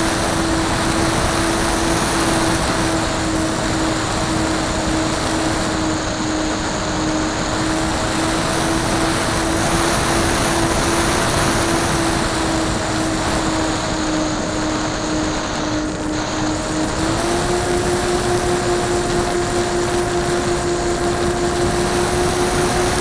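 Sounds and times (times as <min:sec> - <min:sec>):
air rushing over microphone: 0:00.0 - 0:23.0
model airplane motor and propeller: 0:00.0 - 0:23.0.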